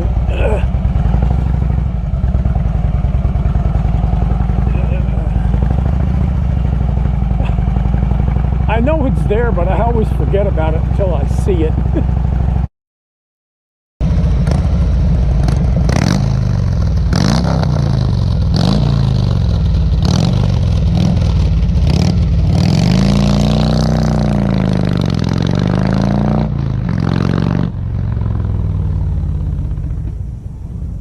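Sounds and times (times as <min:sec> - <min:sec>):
motorcycle engine running under load: 0:00.0 - 0:12.7, 0:14.0 - 0:31.0.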